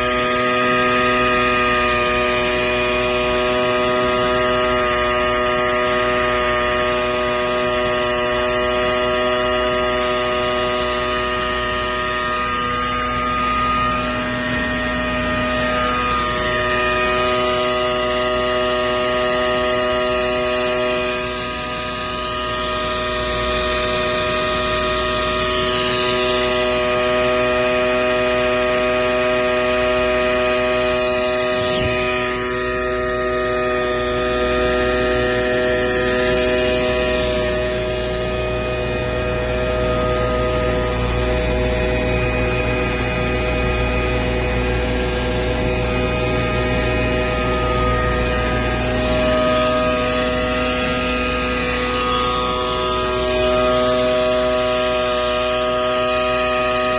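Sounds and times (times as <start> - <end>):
machinery hum: 0.0 - 56.9.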